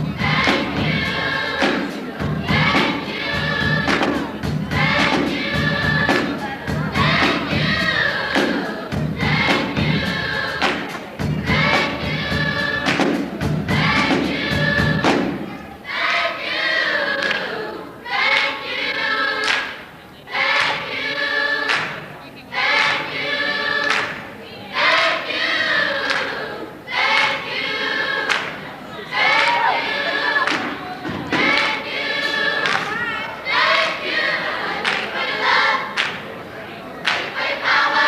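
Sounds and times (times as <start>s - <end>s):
gospel choir singing: 0.0s - 38.0s.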